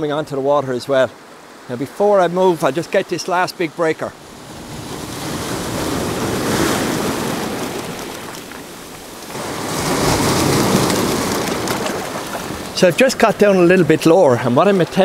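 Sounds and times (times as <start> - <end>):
waves washing over boulders: 0.0 - 15.0.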